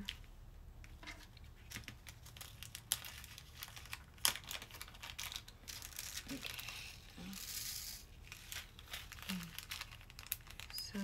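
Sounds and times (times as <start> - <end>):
plastic bag crinkling: 1.2 - 11.0.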